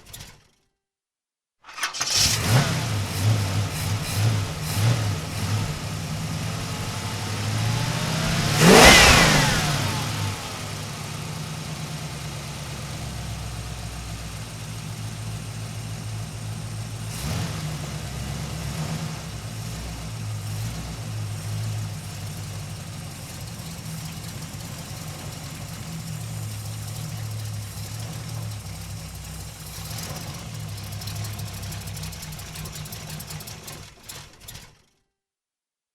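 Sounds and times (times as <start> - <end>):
car engine revving and idling: 1.9 - 34.2.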